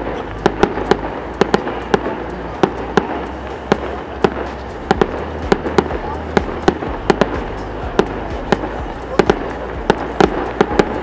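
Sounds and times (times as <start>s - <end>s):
fireworks bangs: 0.0s - 11.0s
steady rumbling: 0.0s - 11.0s.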